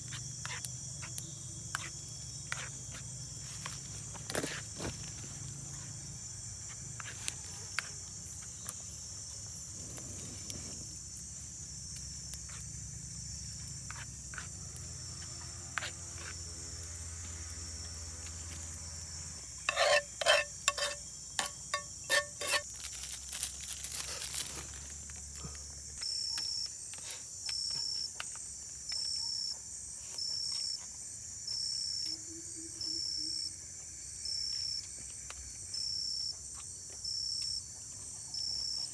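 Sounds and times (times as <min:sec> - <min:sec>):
insect chirping: 0:00.0 - 0:38.9
insects buzzing: 0:00.0 - 0:38.9.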